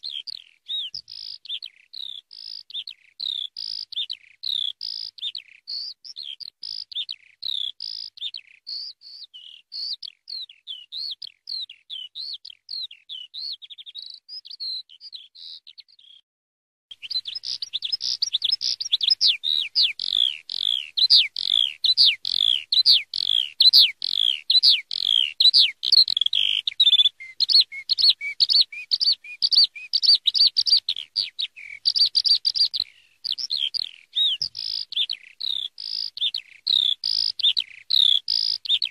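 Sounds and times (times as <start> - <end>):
skylark singing: 0.0 - 16.2, 16.9 - 38.9.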